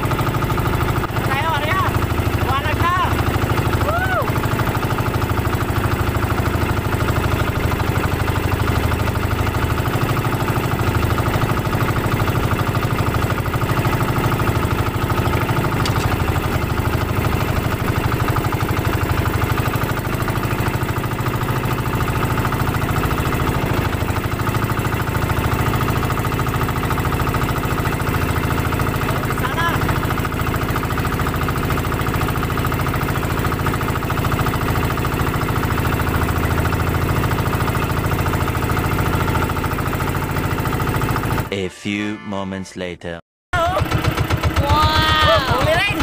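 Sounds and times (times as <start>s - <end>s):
boat engine running: 0.0s - 41.7s, 43.6s - 46.0s.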